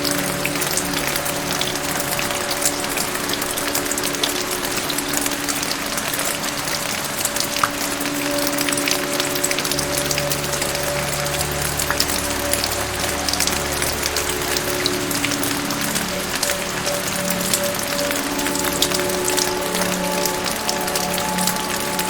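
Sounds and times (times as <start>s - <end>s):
rain falling: 0.0s - 22.0s
raindrops ticking: 0.0s - 22.0s
soft music with held notes: 0.0s - 22.0s.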